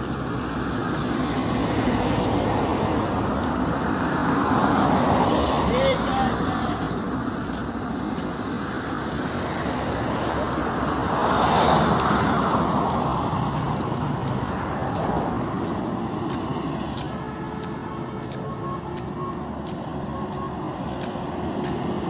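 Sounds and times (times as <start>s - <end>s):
road traffic rush: 0.0s - 22.0s.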